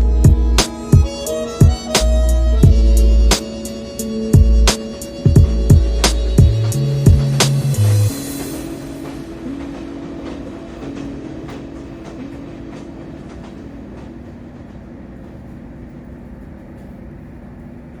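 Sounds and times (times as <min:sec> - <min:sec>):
train rumbling on rails: 0:00.0 - 0:18.0
train wheels clicking: 0:00.0 - 0:18.0.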